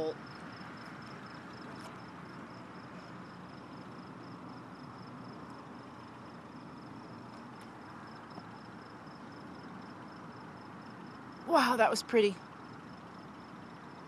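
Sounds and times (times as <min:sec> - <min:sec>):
insect chirping: 0:00.0 - 0:14.0
outdoor night hiss: 0:00.0 - 0:14.0.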